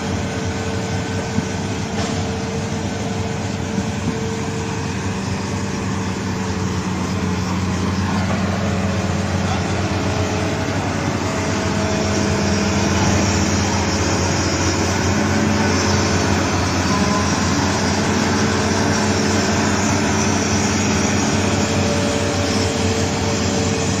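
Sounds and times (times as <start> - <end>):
constant noisy wash: 0.0 - 24.0
heavy machinery engine hum: 0.0 - 24.0.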